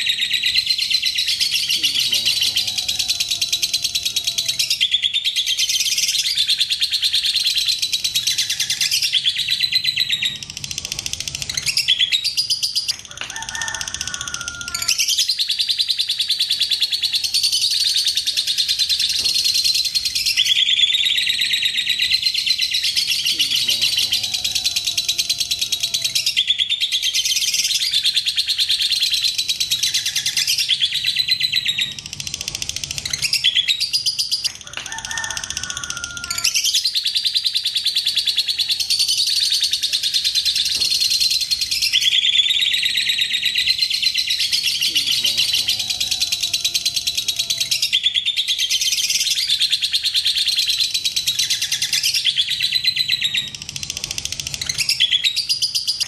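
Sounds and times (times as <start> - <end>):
lovebird shrill chattering trill: 0.0 - 56.0.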